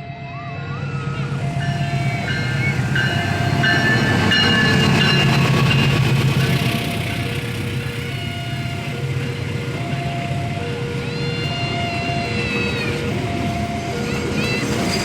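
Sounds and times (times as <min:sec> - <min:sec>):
diesel locomotive running: 0:00.0 - 0:15.0.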